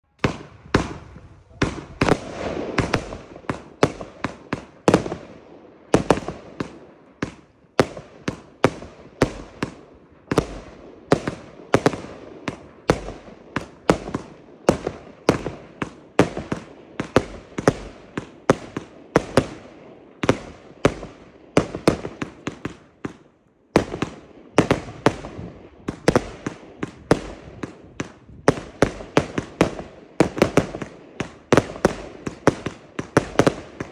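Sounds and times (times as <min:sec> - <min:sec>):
fireworks launching and bursting: 0:00.1 - 0:33.9.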